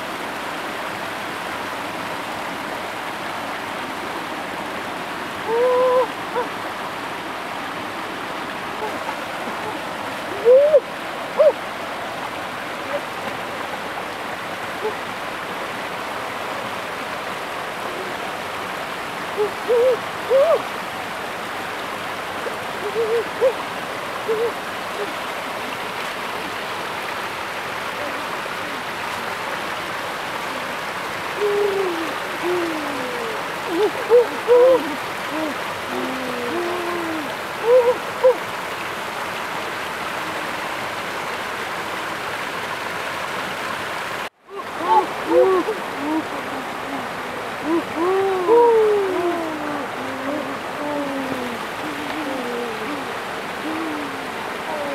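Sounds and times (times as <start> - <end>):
stream splashing over stones: 0.0 - 54.9.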